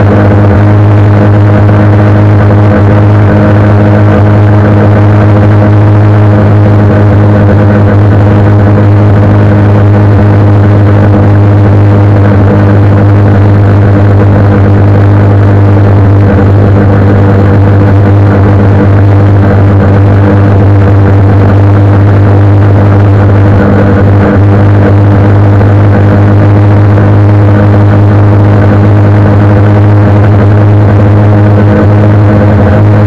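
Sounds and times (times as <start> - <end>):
motorcycle engine cruising: 0.0 - 33.0
wind noise on microphone: 0.0 - 33.0.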